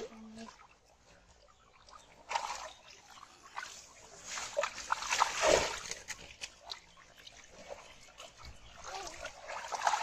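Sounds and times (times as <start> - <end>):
fish splashing in shallow water: 1.5 - 10.0.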